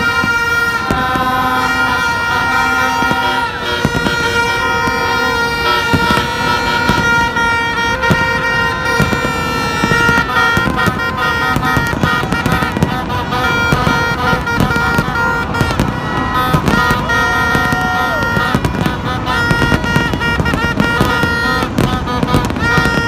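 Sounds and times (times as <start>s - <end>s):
fireworks bursting: 0.0s - 23.0s
many horns tooting: 0.0s - 23.0s.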